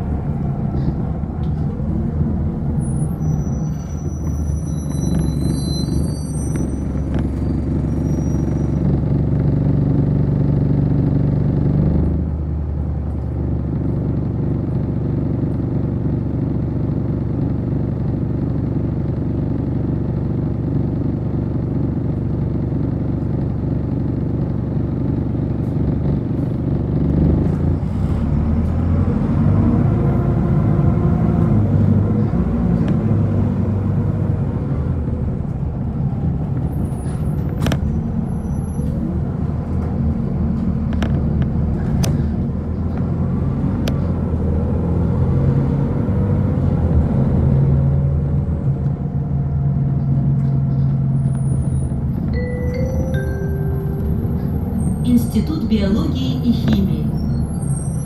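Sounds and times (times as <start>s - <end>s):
bus engine running and revving: 0.0s - 58.0s.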